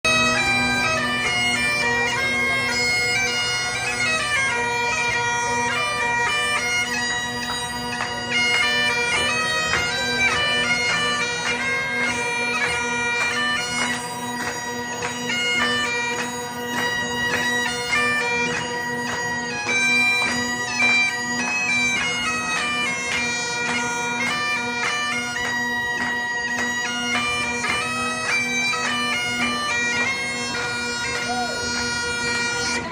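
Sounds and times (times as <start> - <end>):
bagpipes playing a tune: 0.0 - 32.9.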